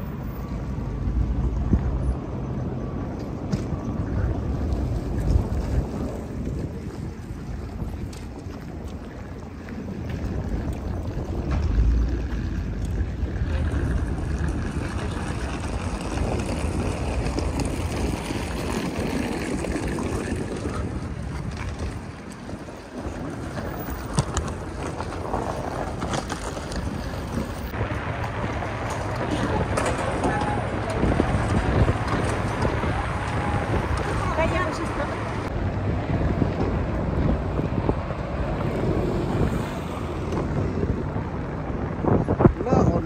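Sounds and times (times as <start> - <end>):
cars passing: 0.0 - 43.0
wind buffeting microphone: 0.0 - 43.0.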